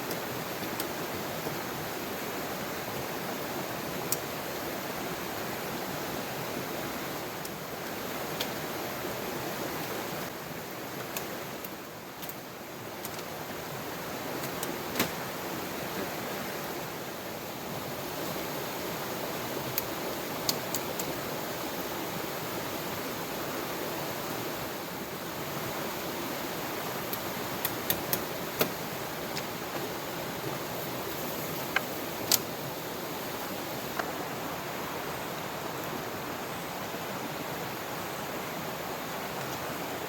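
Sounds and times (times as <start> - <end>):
river running: 0.0 - 40.0.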